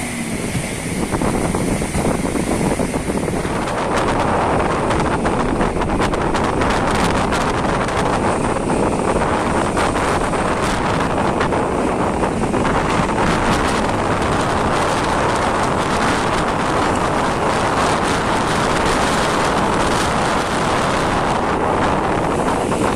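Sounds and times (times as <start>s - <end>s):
waves washing: 0.0s - 22.9s
wind buffeting microphone: 0.0s - 22.9s.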